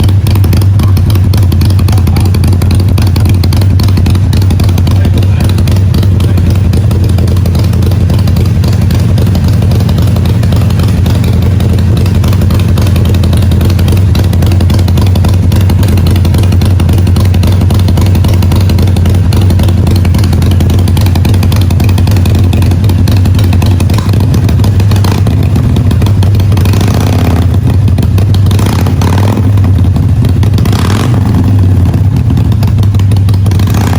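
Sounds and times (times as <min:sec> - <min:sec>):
motorcycle exhaust note: 0:00.0 - 0:33.9.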